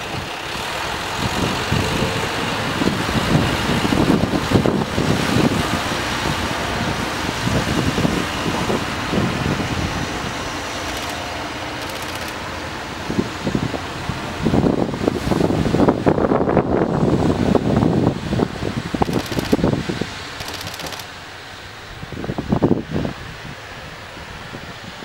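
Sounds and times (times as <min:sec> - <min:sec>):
diesel railcar engine rumble: 0:00.0 - 0:25.0.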